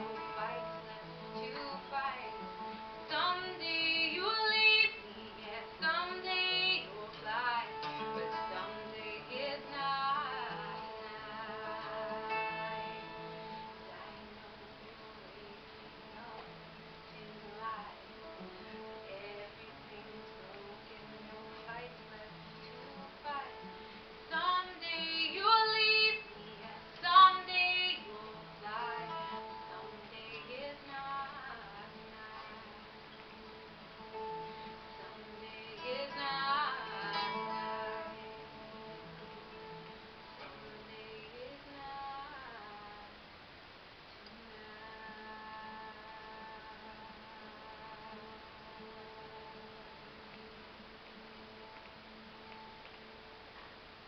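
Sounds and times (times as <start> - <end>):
woman singing: 0.0 - 43.2, 44.2 - 50.2
acoustic guitar playing: 0.0 - 54.0.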